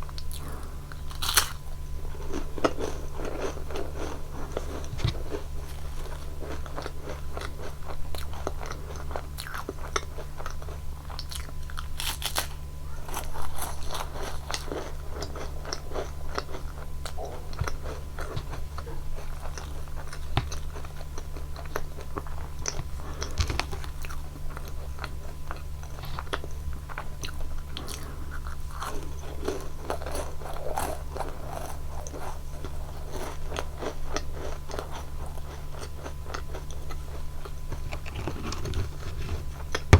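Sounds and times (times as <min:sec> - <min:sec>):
cookie crunching and chewing: 0:00.0 - 0:39.9
steady low hum: 0:00.0 - 0:39.9.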